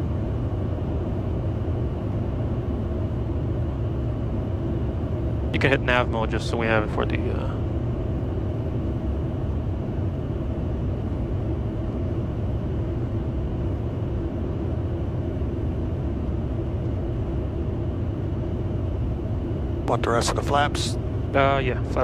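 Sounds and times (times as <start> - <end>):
jet cockpit airflow and engine noise: 0.0 - 22.0.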